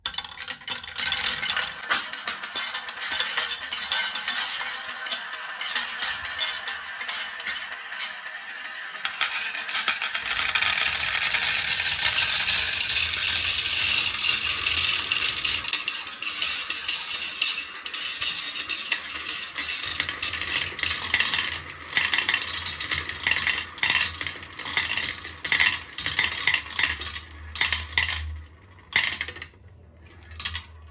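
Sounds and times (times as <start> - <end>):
marbles rolling and clattering: 0.0 - 30.9.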